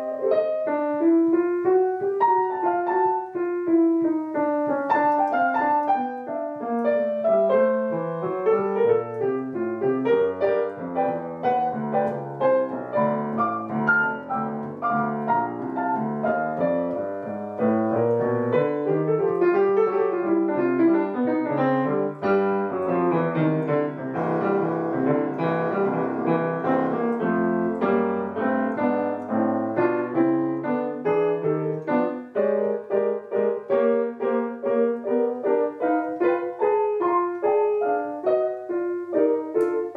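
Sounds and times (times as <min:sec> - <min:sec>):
solo piano music: 0:00.0 - 0:39.9.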